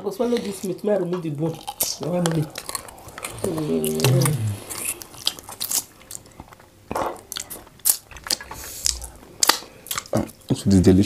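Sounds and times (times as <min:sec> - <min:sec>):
chewing and biting: 0:01.4 - 0:10.6.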